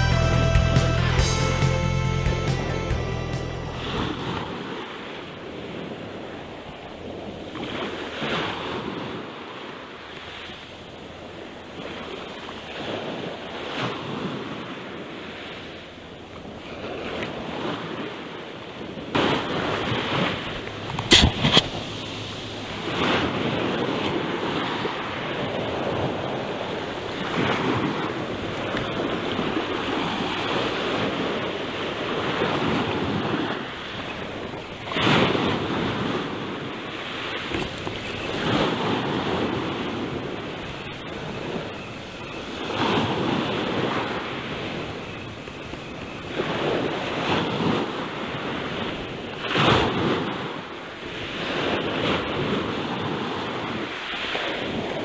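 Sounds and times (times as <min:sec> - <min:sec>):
ocean surf breaking on shore: 0:02.2 - 0:55.0.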